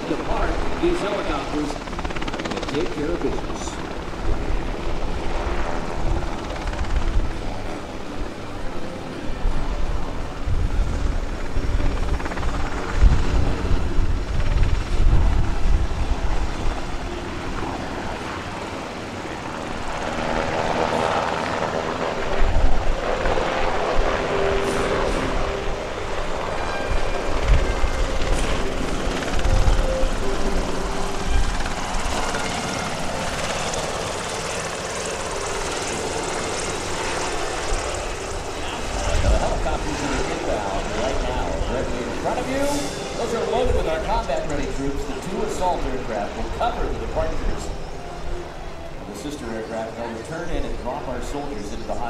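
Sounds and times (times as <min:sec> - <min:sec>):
helicopter rotor thudding: 0:00.0 - 0:07.6, 0:11.0 - 0:47.7
turbine noise: 0:00.0 - 0:52.0.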